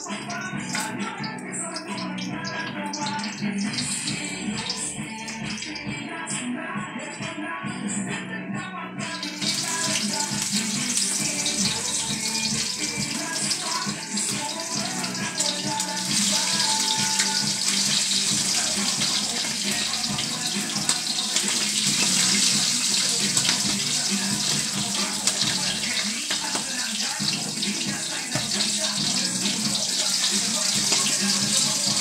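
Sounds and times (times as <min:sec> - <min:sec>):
fish sizzling in hot oil: 0:01.8 - 0:05.9, 0:09.2 - 0:32.0.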